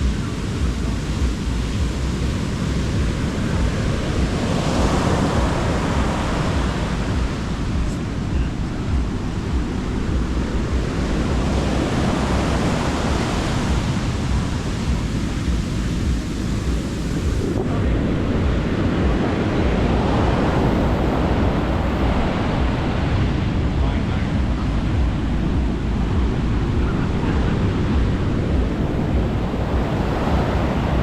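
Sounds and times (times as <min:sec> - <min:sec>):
sea waves breaking: 0:00.0 - 0:31.0
wind rumble on microphone: 0:00.0 - 0:31.0.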